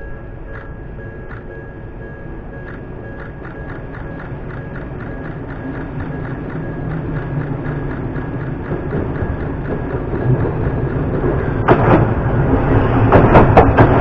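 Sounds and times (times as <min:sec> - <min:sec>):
level-crossing warning bell: 0:00.0 - 0:13.0
electric train rumble: 0:00.0 - 0:14.0.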